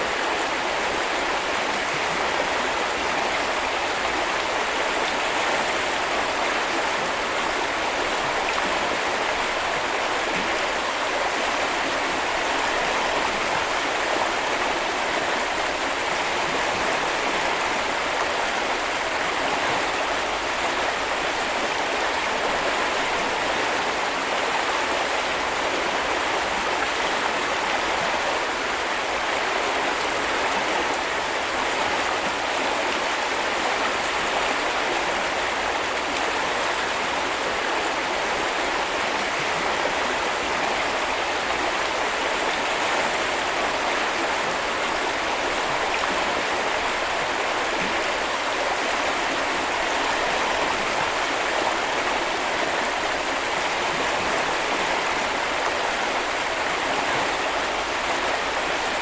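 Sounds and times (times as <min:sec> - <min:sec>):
brook flowing over stones: 0:00.0 - 0:59.0.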